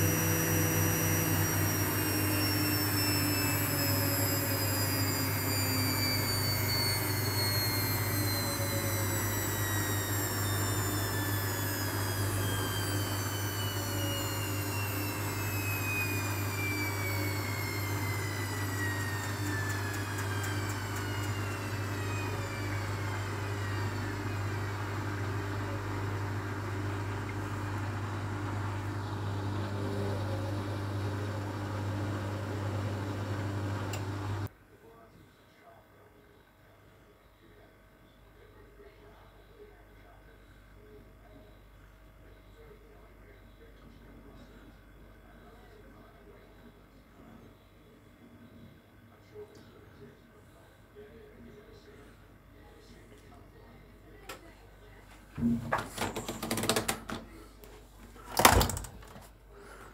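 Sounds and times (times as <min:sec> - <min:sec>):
washing machine motor whine: 0:00.0 - 0:34.5, 0:42.4 - 0:59.9.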